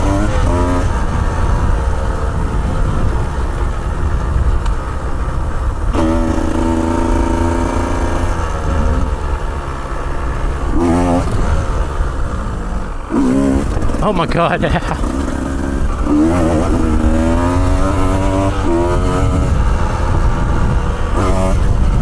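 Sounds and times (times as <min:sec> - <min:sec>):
wind rumble on microphone: 0:00.0 - 0:14.0, 0:14.8 - 0:22.0
dirt bike engine running: 0:00.0 - 0:22.0.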